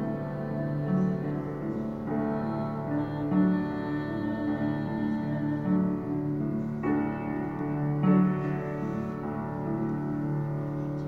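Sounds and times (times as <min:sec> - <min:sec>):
gentle piano chords: 0:00.0 - 0:11.0.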